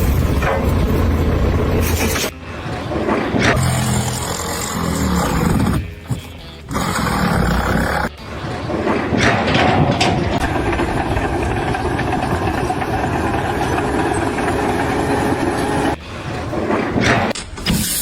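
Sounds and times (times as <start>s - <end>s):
loud mechanical vehicle noise: 0.0s - 18.0s.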